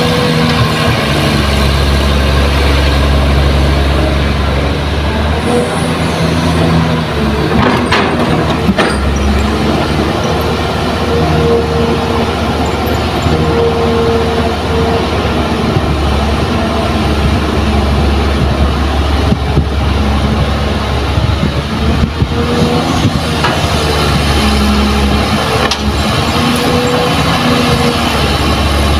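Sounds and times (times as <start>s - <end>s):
excavator diesel engine running: 0.0s - 28.9s
hydraulic whine: 0.0s - 28.9s.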